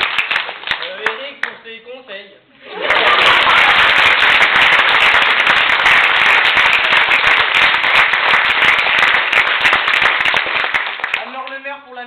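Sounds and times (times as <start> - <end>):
audience applauding: 0.0 - 1.5, 2.7 - 11.6.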